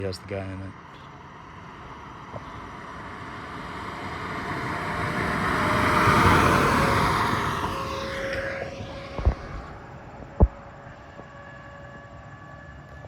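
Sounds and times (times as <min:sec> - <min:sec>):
vehicle passing by: 0:00.0 - 0:11.1.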